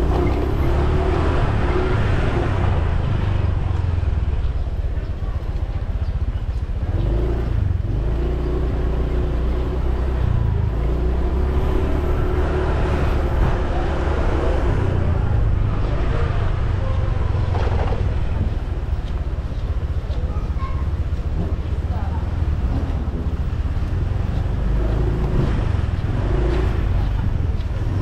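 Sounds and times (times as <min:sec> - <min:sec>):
motorbike engine rumble: 0:00.0 - 0:28.0.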